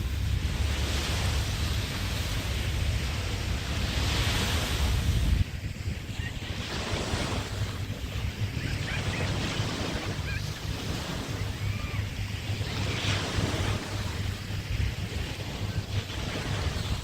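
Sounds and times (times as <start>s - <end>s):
small waves washing onto beach: 0.0s - 17.0s
wind rumbling on microphone: 0.0s - 17.0s.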